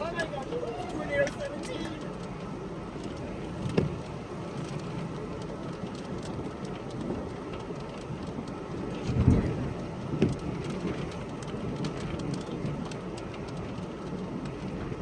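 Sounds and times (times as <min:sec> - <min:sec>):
wind and rain in a storm: 0:00.0 - 0:15.0.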